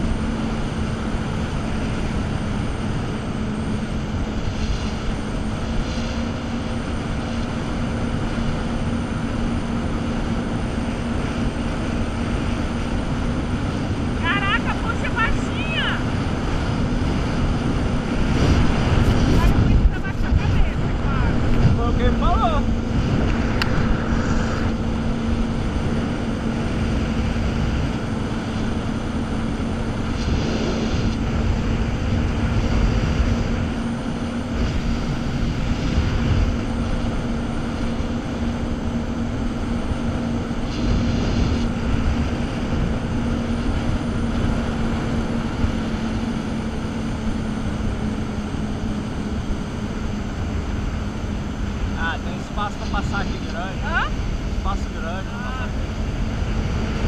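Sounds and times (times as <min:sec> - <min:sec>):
jet ski engine droning: 0:00.0 - 0:57.0
wind: 0:00.0 - 0:57.0.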